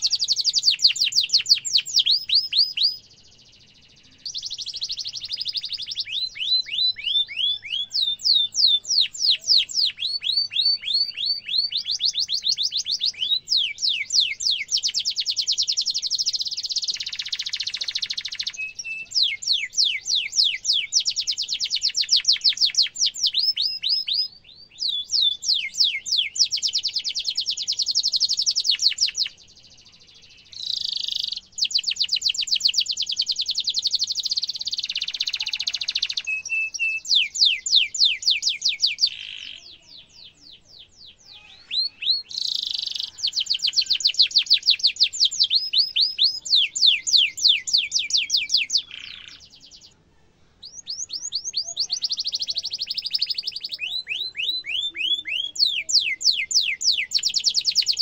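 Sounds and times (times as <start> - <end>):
canary singing trills: 0.0 - 50.0, 50.6 - 58.0.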